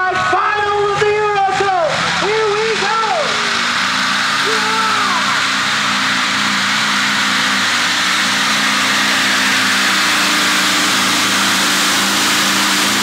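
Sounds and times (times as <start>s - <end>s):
tractor engine running loud: 0.0s - 13.0s.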